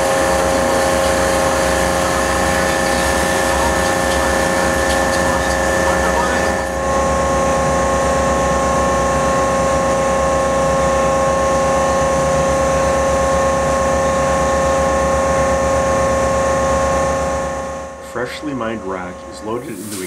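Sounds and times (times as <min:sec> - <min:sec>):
loud machine drone: 0:00.0 - 0:20.0.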